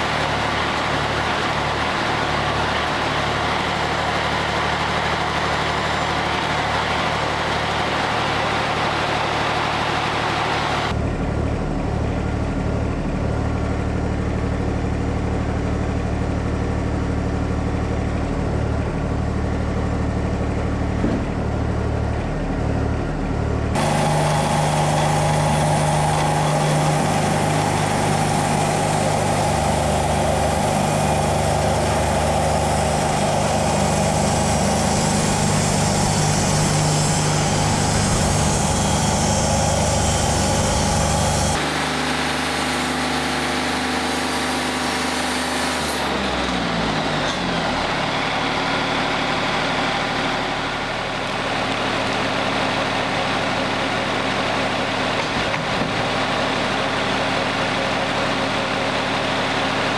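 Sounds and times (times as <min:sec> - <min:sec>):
sawmill engine drone: 0:00.0 - 0:59.9.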